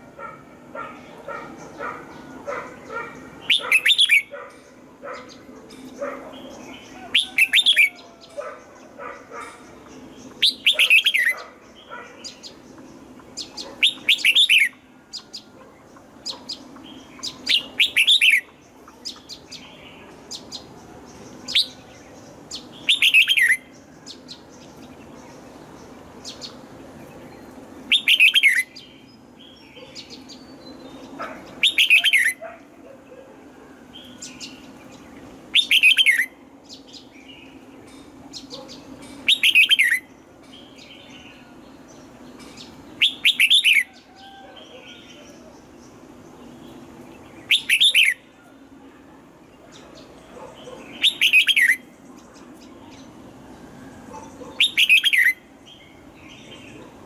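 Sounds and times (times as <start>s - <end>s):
bulbul singing: 1.0s - 32.6s, 33.9s - 53.3s, 53.9s - 57.0s.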